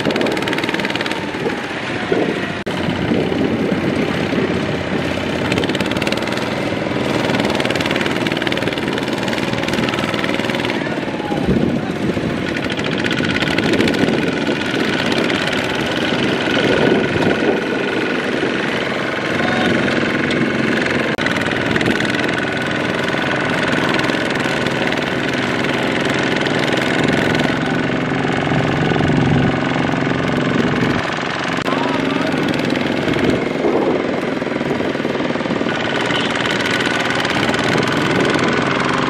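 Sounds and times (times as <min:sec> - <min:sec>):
diesel tiller engine running: 0:00.0 - 0:39.0.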